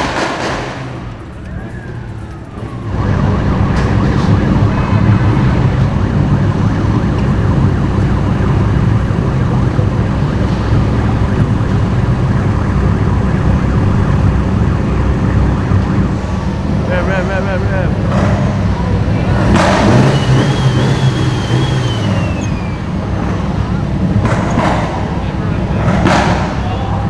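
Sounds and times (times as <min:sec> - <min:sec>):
loud car engine rumbling: 0:00.0 - 0:27.0.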